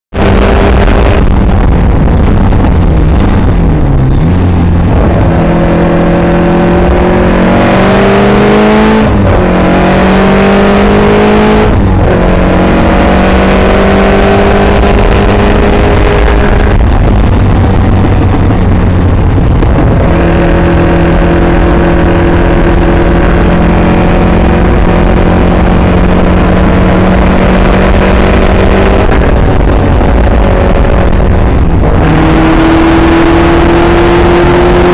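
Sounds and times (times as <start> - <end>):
car engine at full throttle: 0.1 - 34.9.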